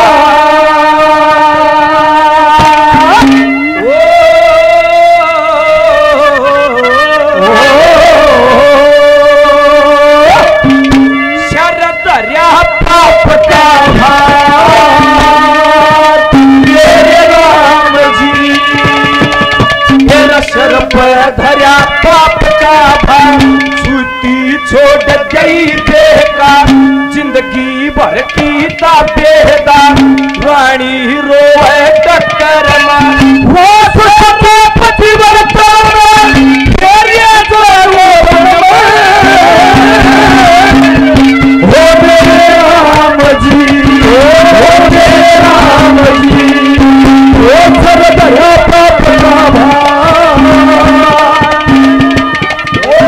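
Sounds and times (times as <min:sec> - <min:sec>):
fast hand-drum rhythm: 0:00.0 - 0:04.4, 0:07.4 - 0:53.0
bending folk melody: 0:00.0 - 0:53.0.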